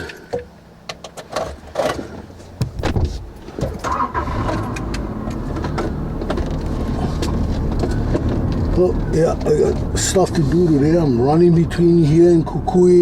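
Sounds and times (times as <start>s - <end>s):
vehicle engine starting and idling: 1.8s - 13.0s.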